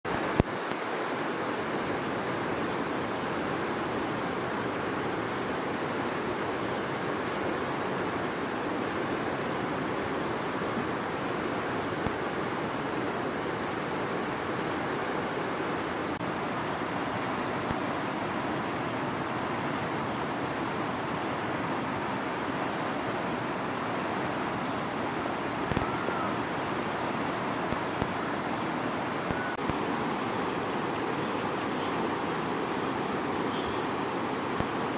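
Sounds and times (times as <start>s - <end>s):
insects trilling: 0.1s - 34.9s
river flowing: 0.1s - 34.9s.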